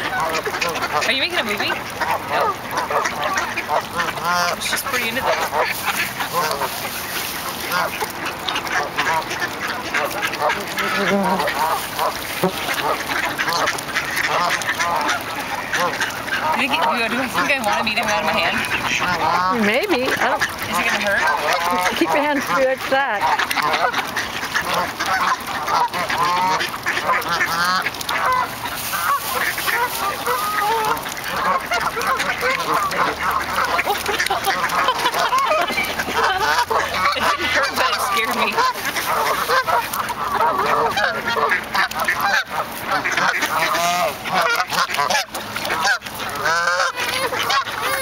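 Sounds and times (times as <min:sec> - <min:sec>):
geese and ducks honking: 0:00.0 - 0:48.0.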